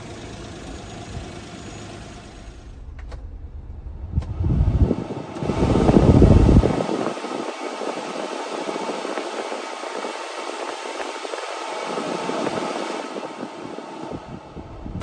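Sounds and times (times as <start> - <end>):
mini truck running: 0.0 - 15.0.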